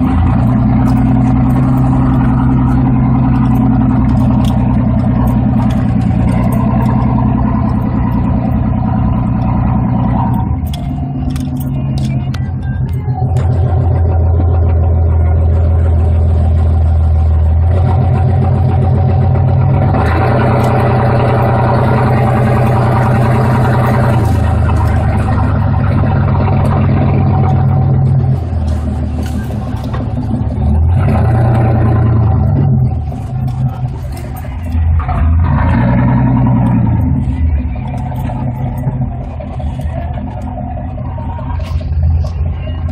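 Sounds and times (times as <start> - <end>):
vehicle engine revving: 0.0 - 42.9.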